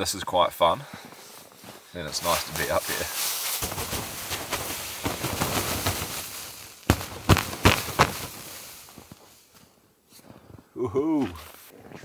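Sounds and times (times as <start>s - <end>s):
footsteps crunching in snow: 0.9s - 10.6s.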